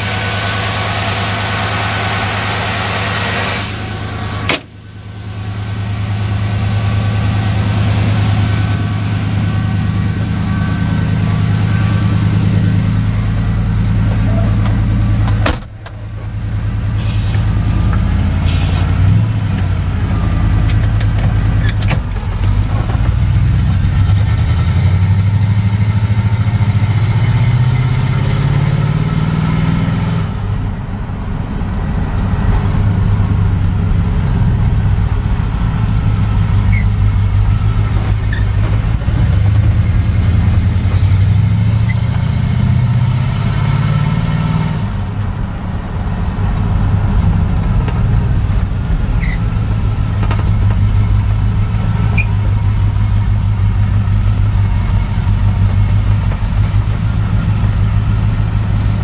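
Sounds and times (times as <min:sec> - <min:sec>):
truck engine accelerating: 0:00.0 - 0:59.0.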